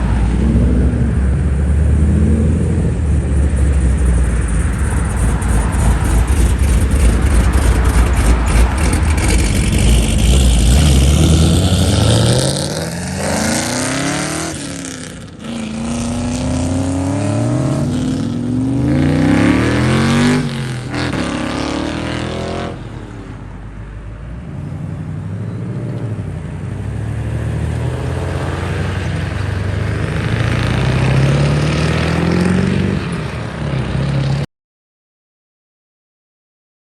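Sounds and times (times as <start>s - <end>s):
car engine accelerating hard: 0.0s - 22.9s, 24.7s - 34.4s.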